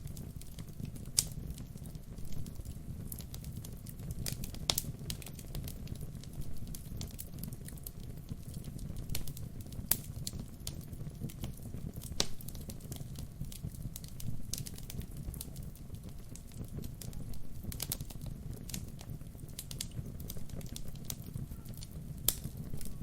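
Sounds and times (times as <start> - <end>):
fire rumbling: 0.0 - 23.0
wood crackling and popping: 0.0 - 23.0.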